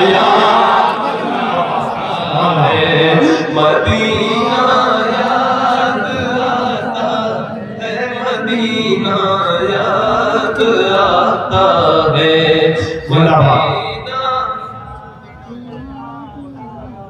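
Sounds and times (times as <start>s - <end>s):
man singing through a microphone: 0.0s - 1.2s, 2.1s - 17.0s.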